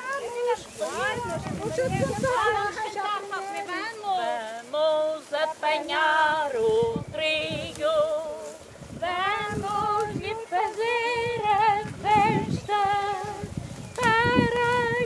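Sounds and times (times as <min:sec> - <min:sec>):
women singing unaccompanied: 0:00.0 - 0:15.0.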